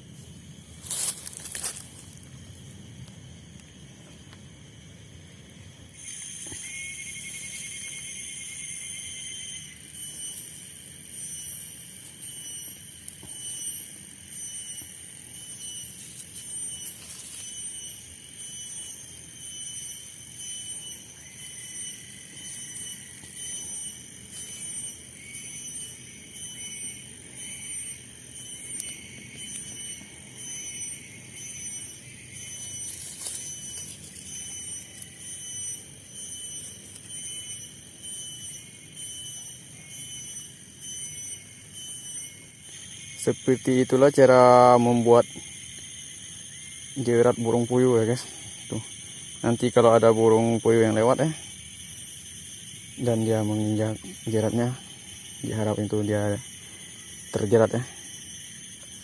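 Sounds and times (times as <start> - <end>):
cicadas droning: 0.0 - 59.0.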